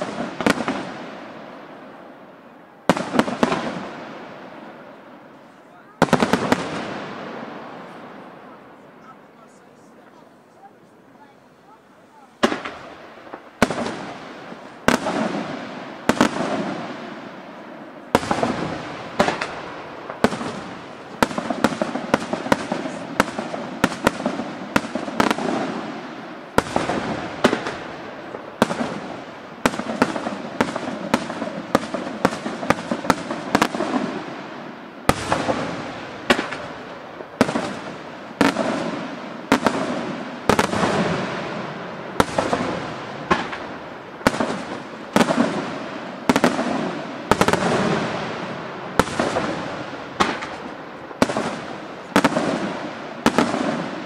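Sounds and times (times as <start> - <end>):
fireworks bursting with echo: 0.0 - 54.0.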